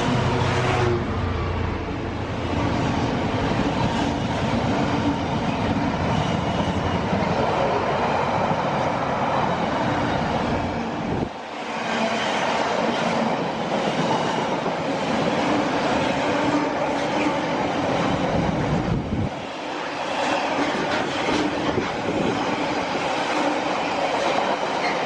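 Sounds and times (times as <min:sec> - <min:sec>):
train passing at speed: 0:00.0 - 0:25.0.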